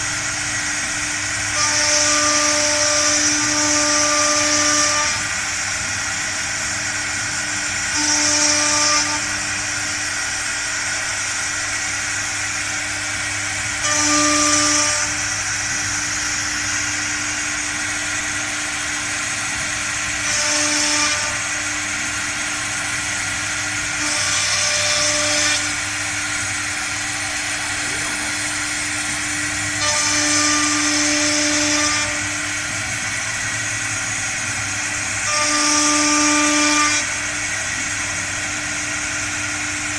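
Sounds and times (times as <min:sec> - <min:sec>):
router bit cutting fibreboard: 0:00.0 - 0:39.9
router spindle whining: 0:00.0 - 0:39.9.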